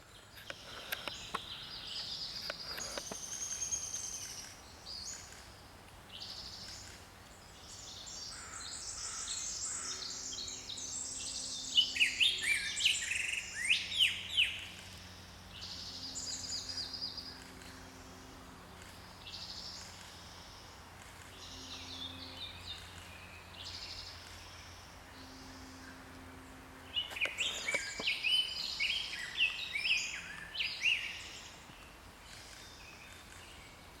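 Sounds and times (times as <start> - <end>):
small songbirds chirping: 0.0 - 26.0, 26.8 - 34.0
outdoor background noise: 0.0 - 34.0.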